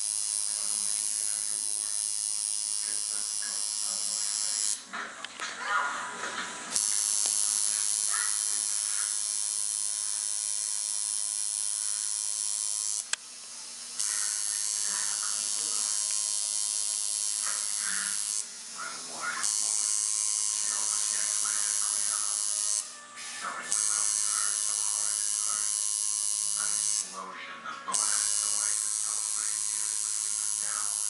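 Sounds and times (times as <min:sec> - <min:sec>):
tattoo machine buzzing: 0:00.0 - 0:04.9, 0:06.2 - 0:27.2, 0:27.9 - 0:31.0.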